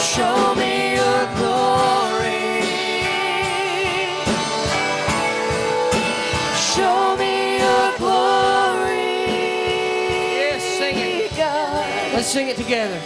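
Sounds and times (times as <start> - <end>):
voices singing long notes: 0.0 - 12.5
band playing steady beat: 0.0 - 13.0.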